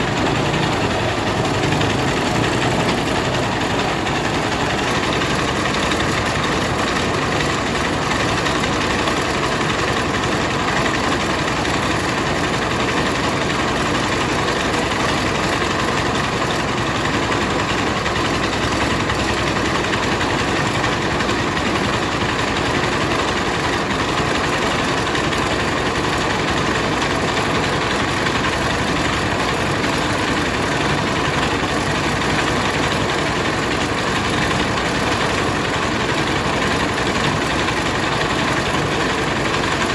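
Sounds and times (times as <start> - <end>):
rice milling machine drone: 0.0 - 39.9.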